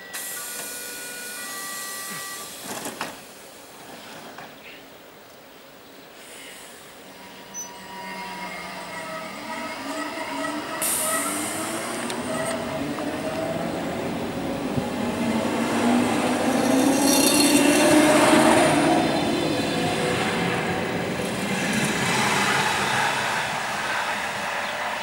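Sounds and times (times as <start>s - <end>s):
electric train motors whining: 0.1s - 3.2s, 6.8s - 25.0s.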